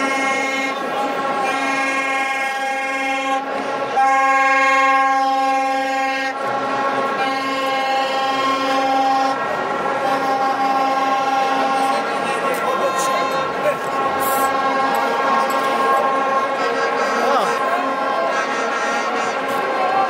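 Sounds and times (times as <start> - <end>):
horn blasts: 0.0 - 20.0.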